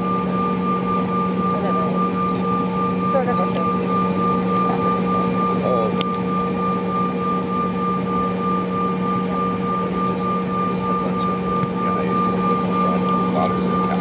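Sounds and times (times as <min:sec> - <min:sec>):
jet engines humming and whining: 0:00.0 - 0:14.0.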